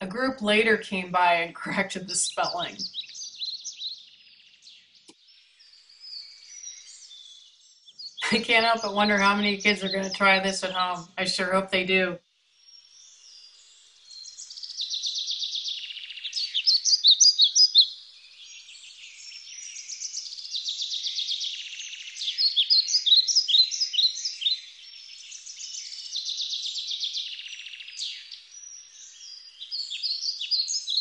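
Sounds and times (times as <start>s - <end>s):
songbird singing trills and chirps: 0.0s - 31.0s.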